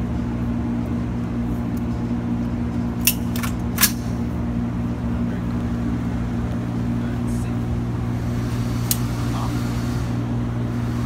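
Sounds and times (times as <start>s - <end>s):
low mechanical air handling hum: 0.0s - 11.0s.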